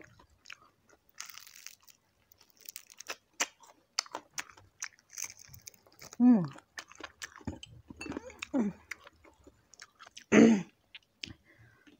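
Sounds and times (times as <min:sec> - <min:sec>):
crispy food being bitten and chewed: 0:00.0 - 0:11.9.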